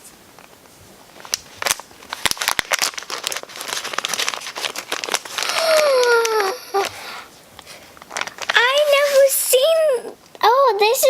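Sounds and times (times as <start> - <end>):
plastic packaging crinkling and tearing: 0.3 - 9.4.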